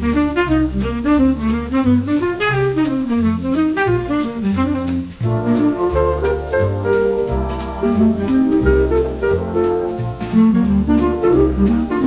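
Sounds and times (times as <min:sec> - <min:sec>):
jazz music with horn and drums: 0:00.0 - 0:12.0.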